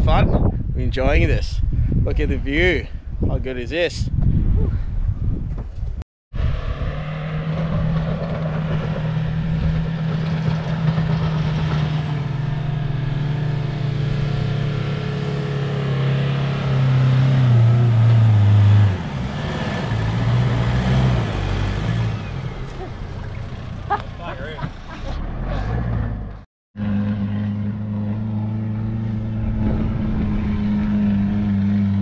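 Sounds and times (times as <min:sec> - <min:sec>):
vehicle engine revving hard: 0:06.4 - 0:32.0.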